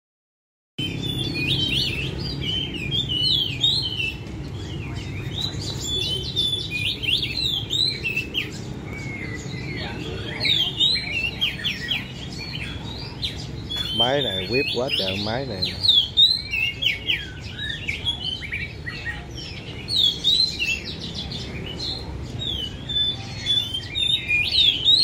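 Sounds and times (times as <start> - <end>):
songbirds calling and singing: 0.8 - 25.0.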